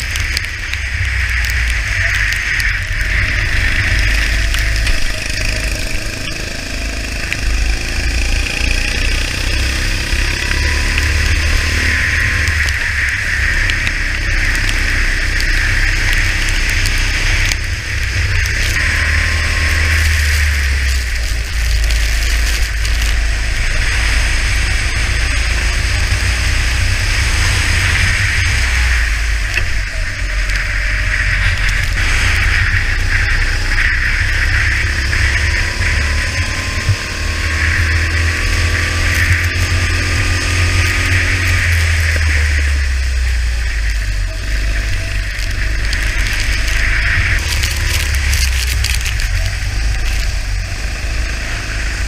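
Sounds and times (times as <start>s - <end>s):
constant hiss: 0.0s - 52.0s
go-kart engine revving: 0.0s - 52.0s
second kart engine: 0.0s - 52.0s
wind rumble on microphone: 0.0s - 52.0s.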